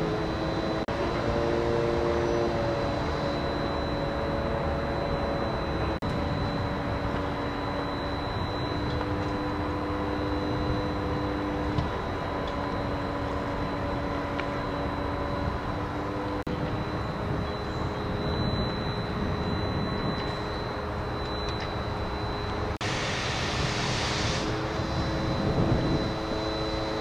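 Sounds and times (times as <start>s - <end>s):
droning tones: 0.0s - 27.0s
engines rumbling: 0.0s - 27.0s.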